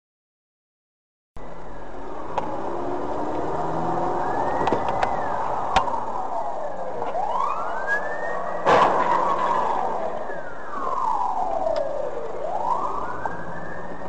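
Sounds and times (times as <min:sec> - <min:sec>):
ambulance siren wailing: 0:01.4 - 0:14.0
car driving noise: 0:01.4 - 0:14.0.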